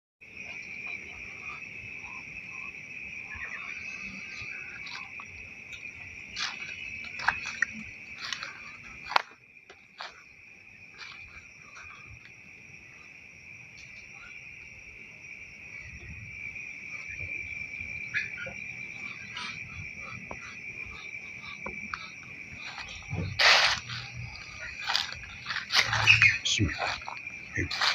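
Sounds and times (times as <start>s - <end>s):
insects chorus: 0.2s - 27.9s.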